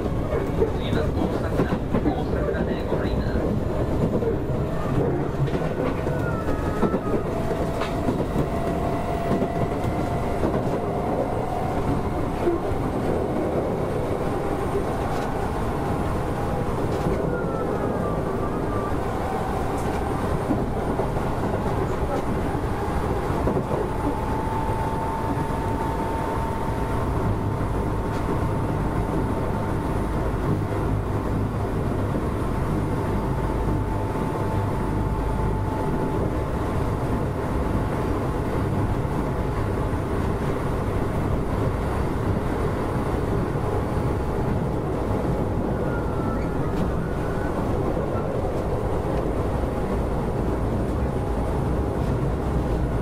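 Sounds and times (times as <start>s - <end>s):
train rolling rumble: 0.0s - 53.0s.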